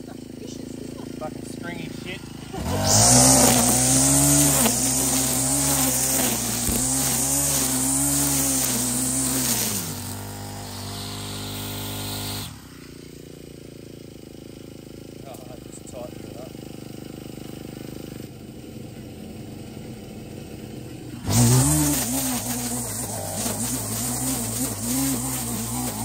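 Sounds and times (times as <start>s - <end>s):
string trimmer cutting grass: 0.0s - 18.4s, 20.8s - 26.0s.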